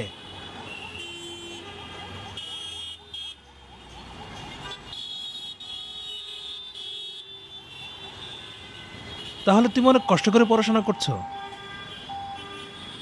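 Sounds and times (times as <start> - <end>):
car horns: 0.0 - 3.4, 4.3 - 13.0.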